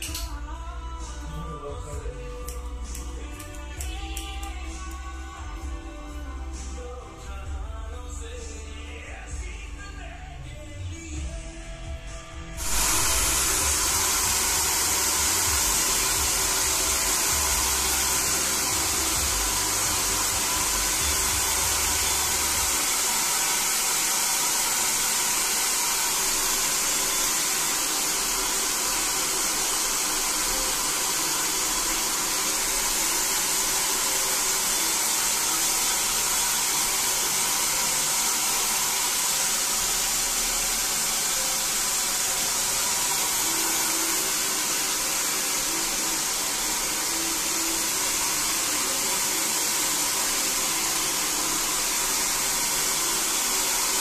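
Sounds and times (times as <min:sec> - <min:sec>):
hair dryer running: 0:01.2 - 0:07.0, 0:12.3 - 0:54.0.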